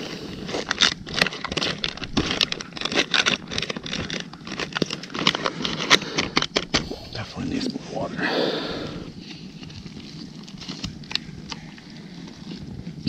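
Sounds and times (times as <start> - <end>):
packaging crinkling and crackling: 0.0 - 7.6, 8.8 - 13.0.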